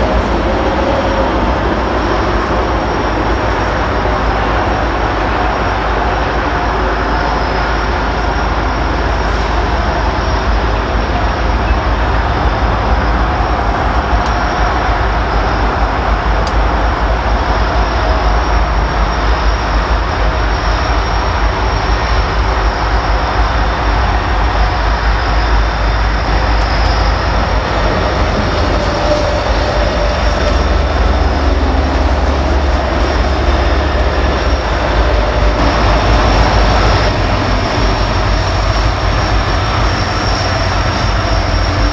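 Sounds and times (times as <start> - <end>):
train rolling past on rails: 0.0 - 41.9.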